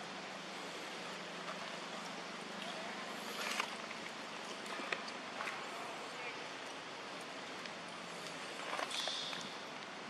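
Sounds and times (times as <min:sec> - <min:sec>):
outdoor background hiss: 0:00.0 - 0:10.0
faint clicks and rustles: 0:00.2 - 0:10.0.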